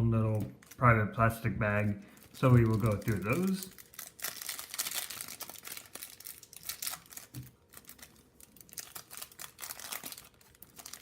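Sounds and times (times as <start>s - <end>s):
plastic bags crinkling: 0.2s - 1.0s, 2.0s - 11.0s.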